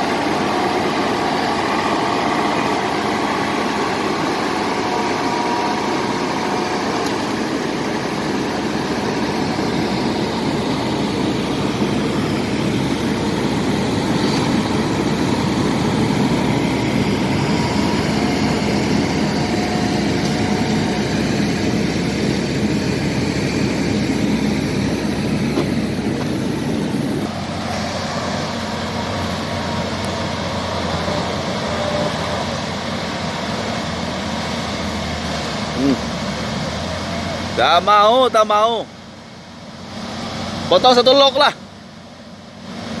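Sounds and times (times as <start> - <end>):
bulldozer diesel engines under load: 0.0 - 43.0.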